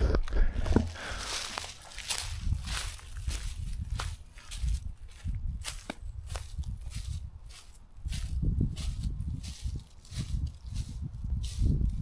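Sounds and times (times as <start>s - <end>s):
footsteps on dry leaves: 0.7s - 12.0s.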